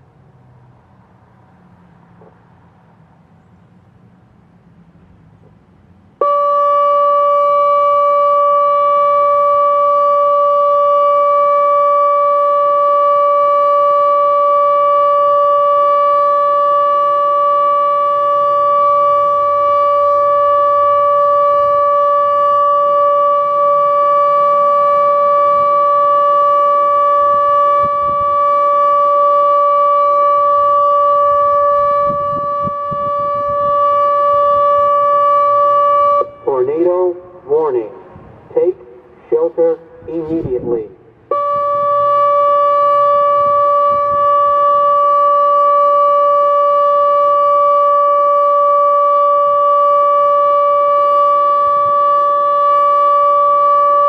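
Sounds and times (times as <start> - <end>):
electronic siren steady tone: 6.2 - 38.7, 39.3 - 54.0.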